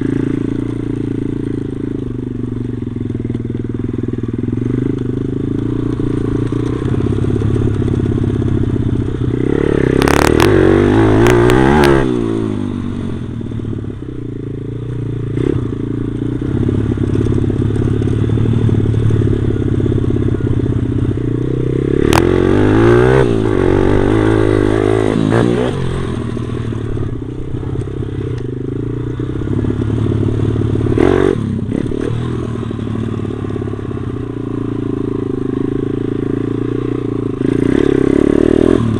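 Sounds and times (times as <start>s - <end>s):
pit bike engine revving: 4.4s - 13.2s, 15.2s - 38.9s.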